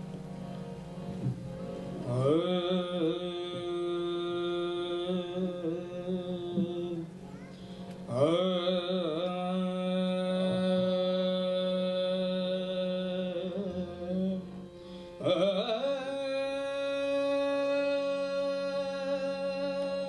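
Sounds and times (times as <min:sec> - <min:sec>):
harmonium drone: 0:00.0 - 0:20.0
person singing long notes: 0:02.0 - 0:20.0.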